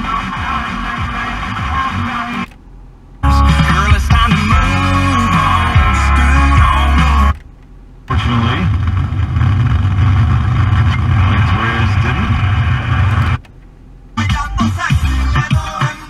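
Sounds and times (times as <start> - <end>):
music on car radio: 0.0 - 8.8, 10.6 - 16.0
radio low hum with hiss: 0.0 - 16.0.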